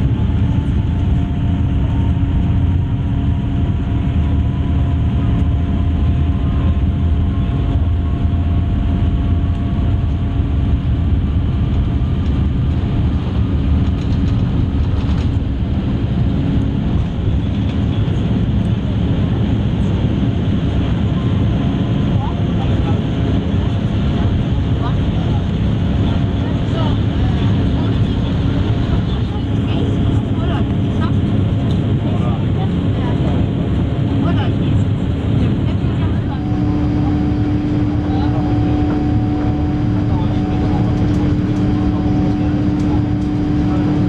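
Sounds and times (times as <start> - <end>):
faint engine whine: 0.0 - 44.0
jet engine rumble in cabin: 0.0 - 44.0.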